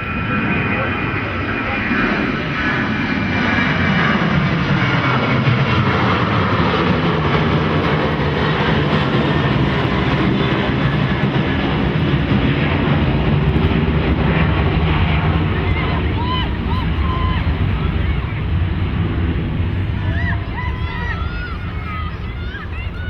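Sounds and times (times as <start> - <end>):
aeroplane engine drone: 0.0 - 23.0.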